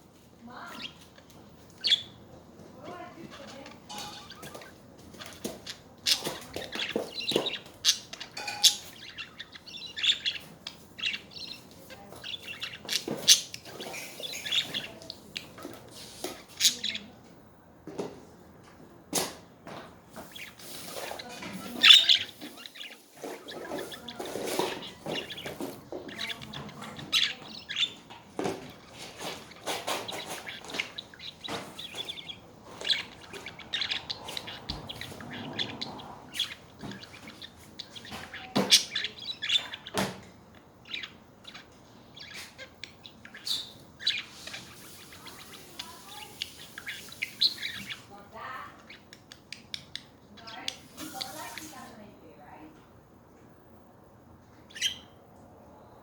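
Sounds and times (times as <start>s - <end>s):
budgerigars chattering: 1.7s - 2.2s, 2.9s - 17.1s, 20.2s - 51.9s, 54.7s - 55.2s.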